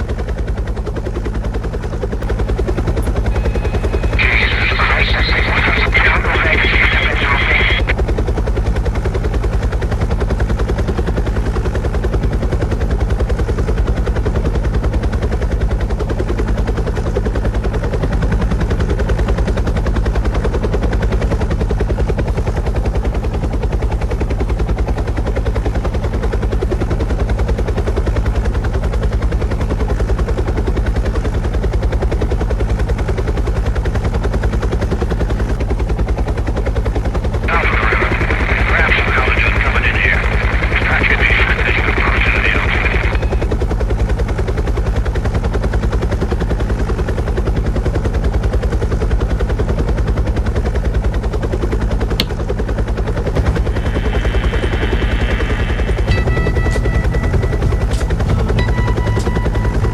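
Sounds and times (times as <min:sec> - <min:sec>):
helicopter rotor chop: 0:00.0 - 0:59.9.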